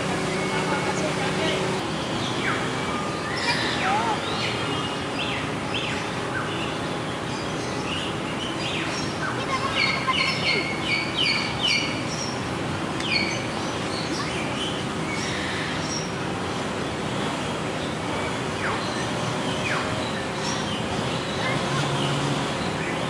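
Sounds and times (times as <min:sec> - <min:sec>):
birds chirping and calling: 0:00.0 - 0:16.6, 0:17.8 - 0:23.0
outdoor background noise: 0:00.0 - 0:23.0.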